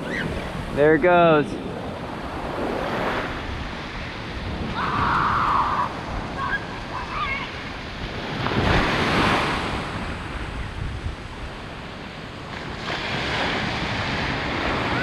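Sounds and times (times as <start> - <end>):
ocean waves breaking on beach: 0.0 - 15.0
wind buffeting microphone: 0.0 - 15.0.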